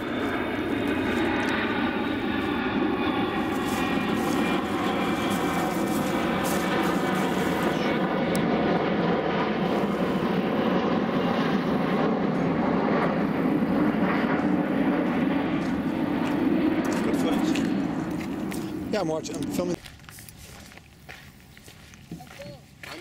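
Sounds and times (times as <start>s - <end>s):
engine drone: 0.0s - 19.8s.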